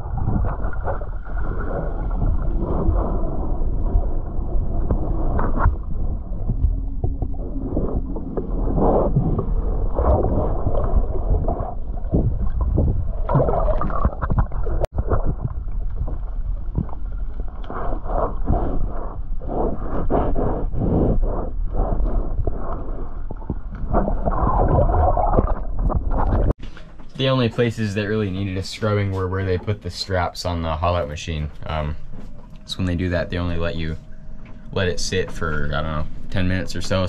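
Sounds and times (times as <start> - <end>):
muffled underwater water sloshing: 0.0 - 37.0.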